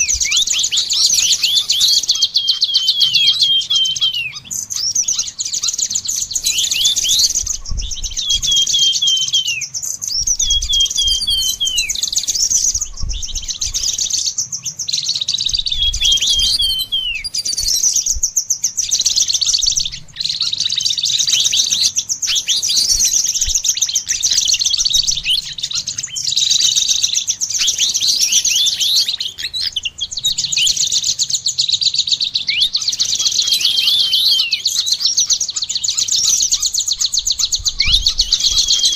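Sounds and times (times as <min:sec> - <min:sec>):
quick whistled bird notes: 0:00.0 - 0:38.9
songbirds chirping: 0:00.0 - 0:38.9.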